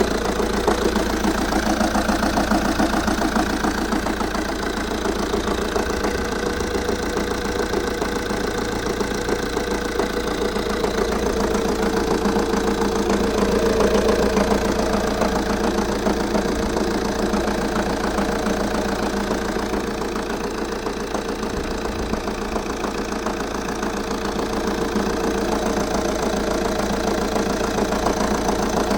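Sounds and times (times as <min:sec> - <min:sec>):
diesel engine idling with knocking: 0:00.0 - 0:28.9.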